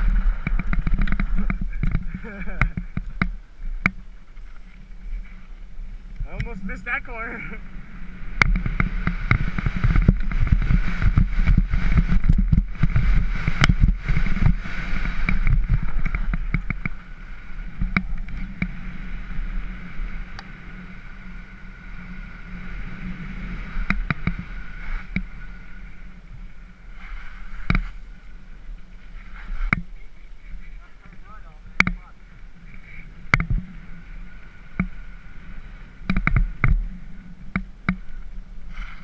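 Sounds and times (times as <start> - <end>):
bike rattling over bumps: 0.0 - 39.0
bike tyres on dirt: 0.0 - 39.0
steady low rumble: 0.0 - 39.0.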